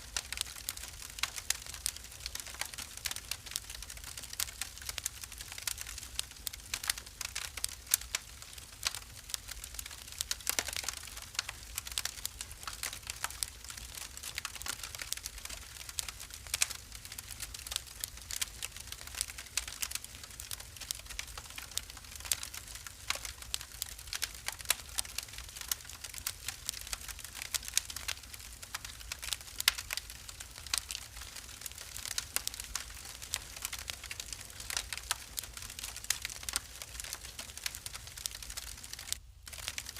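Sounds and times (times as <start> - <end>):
faint steady hiss: 0.0 - 39.9
wood fire crackling and popping: 0.0 - 39.9.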